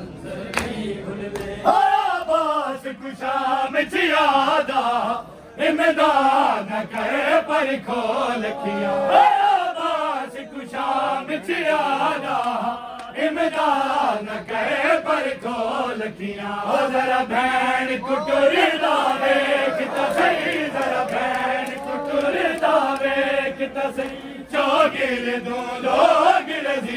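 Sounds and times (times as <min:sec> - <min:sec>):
men chanting a mournful lament: 0:00.2 - 0:26.9.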